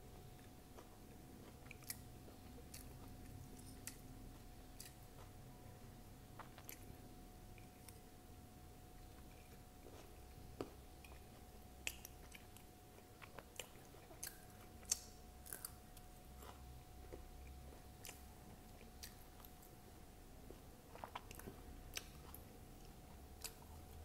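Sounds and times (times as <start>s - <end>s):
person chewing crunchy food: 0.1s - 8.1s, 9.0s - 19.7s, 20.4s - 24.0s.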